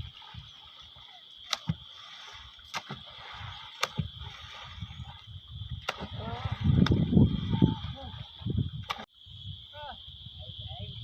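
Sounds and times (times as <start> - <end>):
water splashes and thuds: 0.0 - 9.2
insect drone: 0.0 - 11.0.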